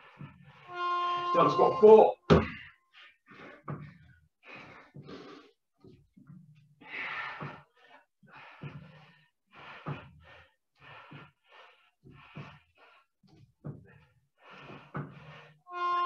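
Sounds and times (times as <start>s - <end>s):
man breathing heavily: 0.0s - 0.7s, 2.4s - 15.7s.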